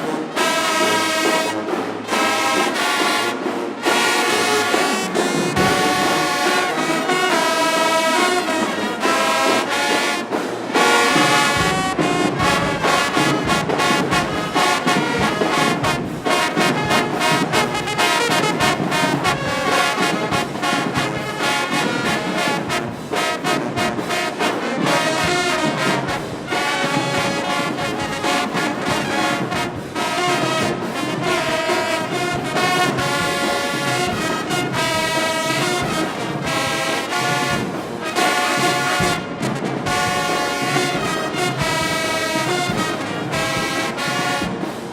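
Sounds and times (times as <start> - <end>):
drumline hits: 0.0 - 44.9
marching band playing: 0.0 - 44.9
trombones and trumpets: 0.0 - 44.9.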